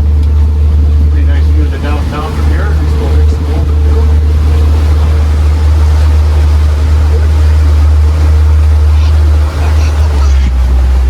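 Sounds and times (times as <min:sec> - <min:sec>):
boat engine drone: 0:00.0 - 0:11.0
water noise: 0:00.0 - 0:11.0.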